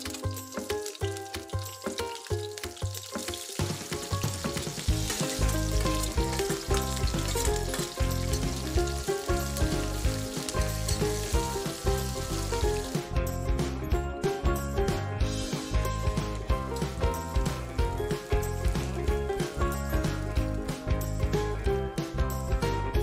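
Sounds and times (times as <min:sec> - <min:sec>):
vegetables sizzling in hot oil: 0:00.0 - 0:13.2, 0:15.3 - 0:21.6
background music: 0:00.0 - 0:23.0.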